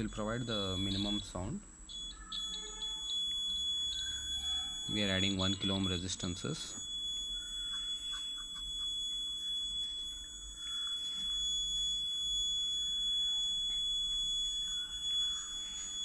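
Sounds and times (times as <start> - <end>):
piezo buzzer high tone: 0.0 - 16.0.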